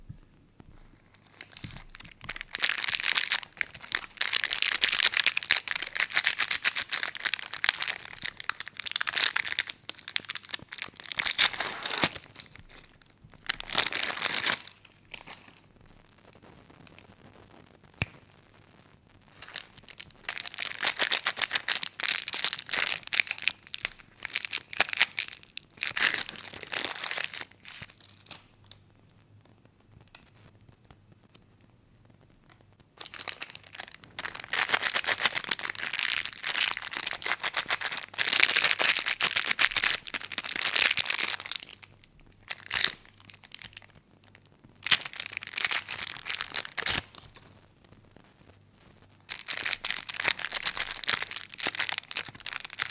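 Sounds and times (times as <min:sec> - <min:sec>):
plastic wrappers crinkling and tearing: 0:00.7 - 0:15.8, 0:19.3 - 0:28.9, 0:32.5 - 0:47.6, 0:49.3 - 0:52.9.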